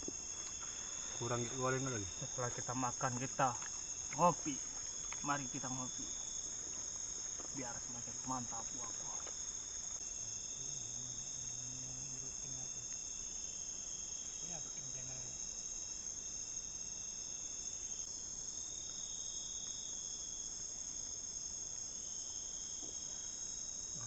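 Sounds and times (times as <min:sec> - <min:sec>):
night insects chirring: 0:00.0 - 0:24.0.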